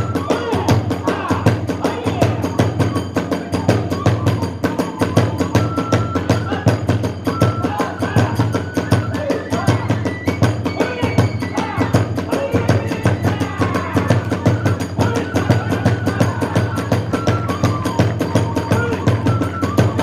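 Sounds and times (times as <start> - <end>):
bamboo flute high notes: 0.0 - 20.0
drums striking rapidly: 0.0 - 20.0.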